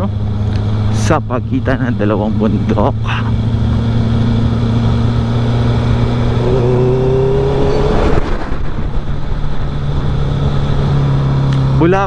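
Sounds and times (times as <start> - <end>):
loud motorcycle engine drone: 0.0 - 12.0.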